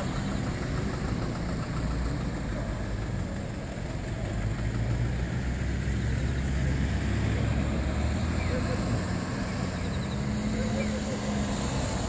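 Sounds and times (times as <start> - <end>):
vehicle engines idling and moving off: 0.0 - 12.0.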